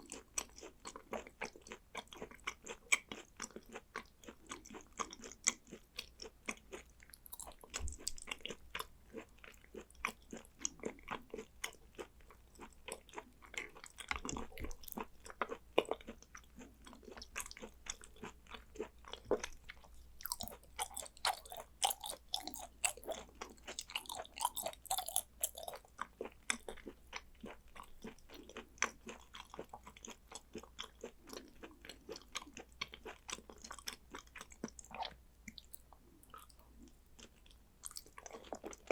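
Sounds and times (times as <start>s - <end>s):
person chewing with wet smacks: 0.0s - 38.9s.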